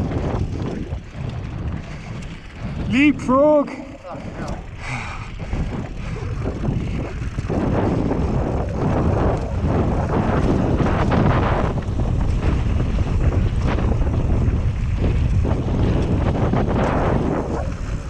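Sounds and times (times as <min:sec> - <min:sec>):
bike tyres rolling on gravel: 0:00.0 - 0:18.0
wind buffeting microphone: 0:00.0 - 0:18.0.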